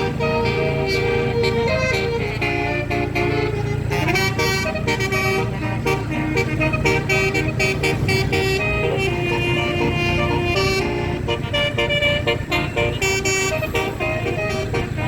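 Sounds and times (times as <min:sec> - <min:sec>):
bus engine running: 0:00.0 - 0:15.0
bus horn playing a tune: 0:00.0 - 0:15.0.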